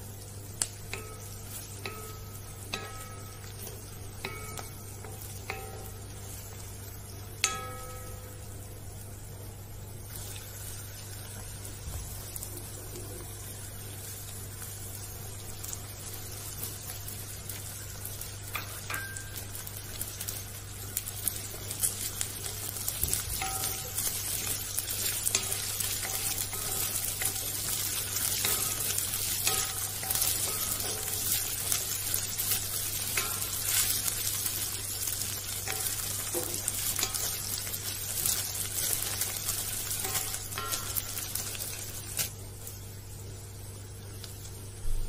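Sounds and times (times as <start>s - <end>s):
food sizzling in oil: 0.0s - 45.0s
steady low hum: 0.0s - 45.0s.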